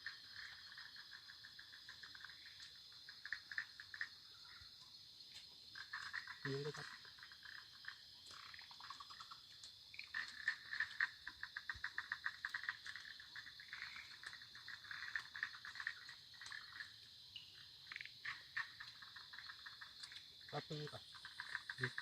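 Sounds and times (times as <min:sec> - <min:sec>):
frogs clicking calls: 0:00.0 - 0:22.0
high insect drone: 0:00.0 - 0:22.0.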